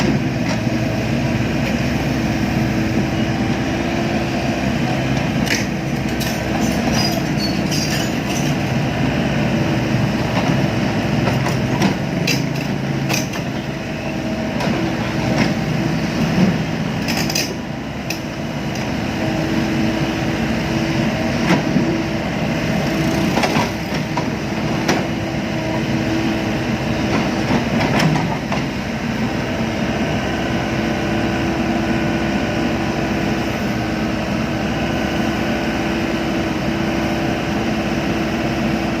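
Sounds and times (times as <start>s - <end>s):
excavator engine running: 0.0s - 39.0s.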